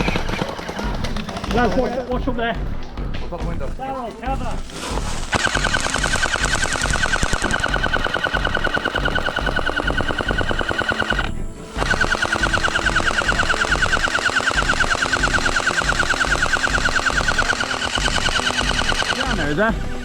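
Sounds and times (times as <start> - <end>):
fast driving music: 0.0 - 20.0.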